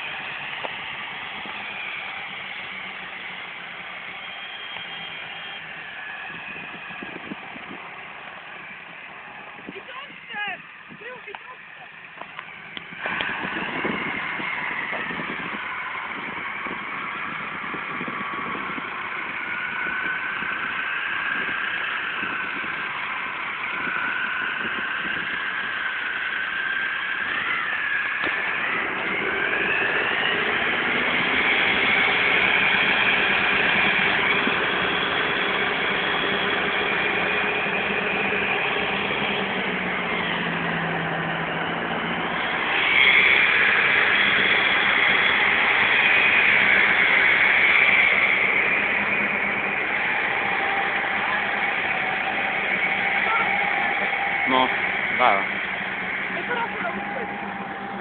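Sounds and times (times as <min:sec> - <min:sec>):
high engine whine: 0:00.0 - 0:58.0
tractor diesel engine drone: 0:00.0 - 0:58.0.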